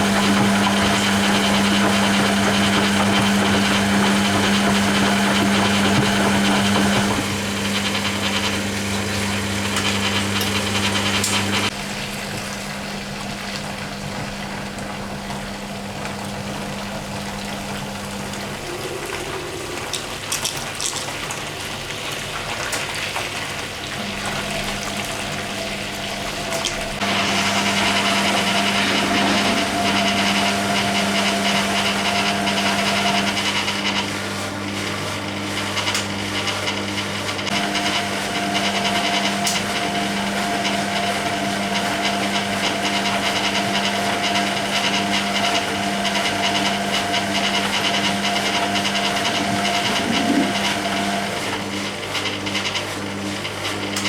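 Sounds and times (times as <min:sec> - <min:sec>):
washing machine drain pump: 0:00.0 - 0:54.0.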